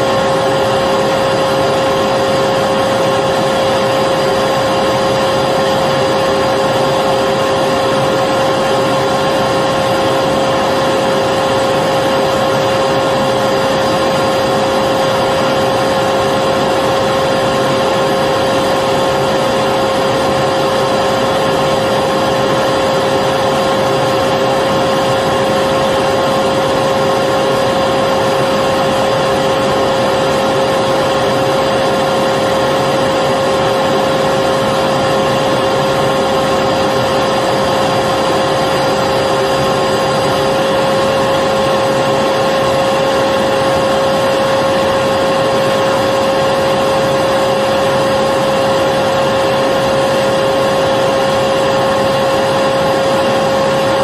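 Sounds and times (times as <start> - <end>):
vacuum cleaner motor whirring: 0.0 - 54.0.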